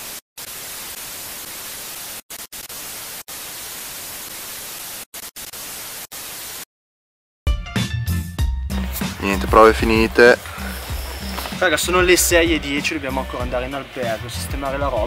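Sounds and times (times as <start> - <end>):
white-noise static hiss: 0.0 - 6.6, 9.2 - 15.0.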